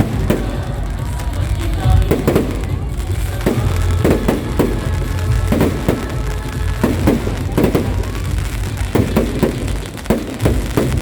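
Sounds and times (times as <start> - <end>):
fireworks popping and banging: 0.0 - 11.0
music playing: 0.0 - 11.0.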